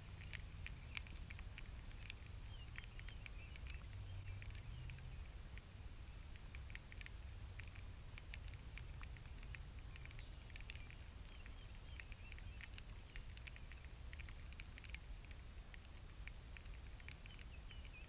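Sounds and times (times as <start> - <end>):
low steady rumble: 0.0 - 18.0
small birds chirping: 0.0 - 18.0.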